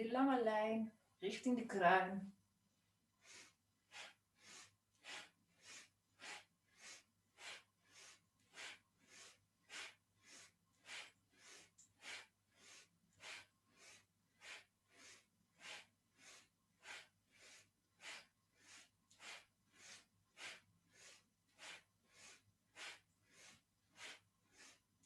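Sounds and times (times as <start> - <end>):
quick rhythmic breathing: 3.2 - 25.0.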